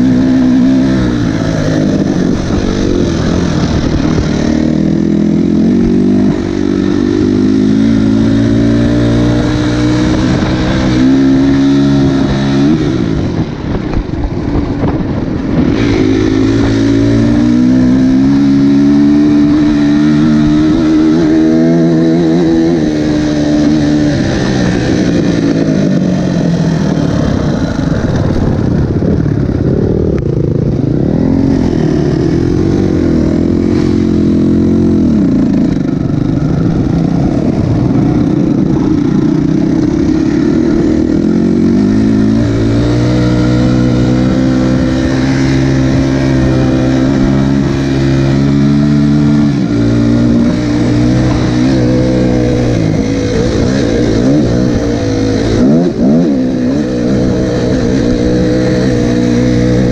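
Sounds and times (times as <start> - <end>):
dirt bike engine revving: 0.0 - 13.8, 14.5 - 59.9.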